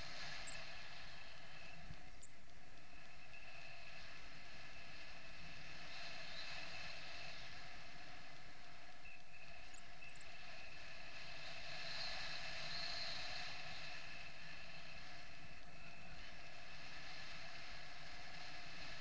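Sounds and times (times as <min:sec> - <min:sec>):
faint steady whistle: 0:00.3 - 0:19.0.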